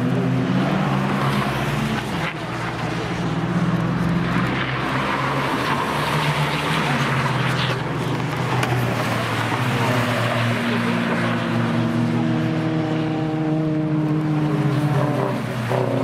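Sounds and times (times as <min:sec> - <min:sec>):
race cars driving at speed: 0:00.0 - 0:16.0.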